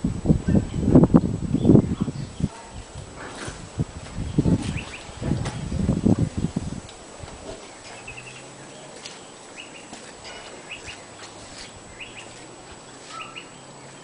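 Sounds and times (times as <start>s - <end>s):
small birds chirping: 0.5s - 14.0s.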